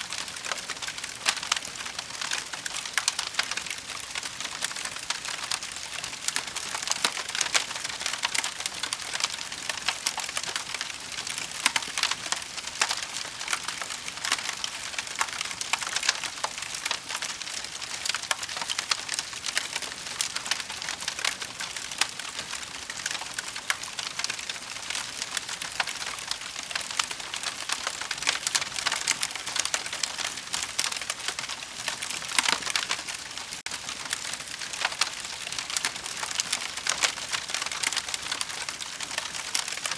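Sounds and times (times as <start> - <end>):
fire crackling: 0.1 - 39.9.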